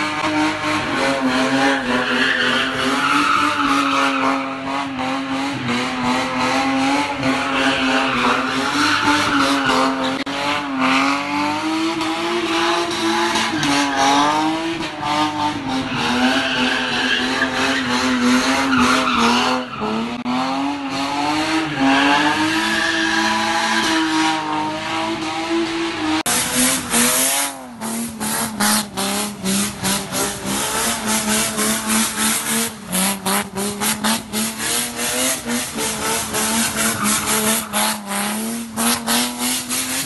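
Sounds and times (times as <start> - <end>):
car engine at high revs: 0.0 - 40.0
tyres squealing and skidding: 0.0 - 40.0.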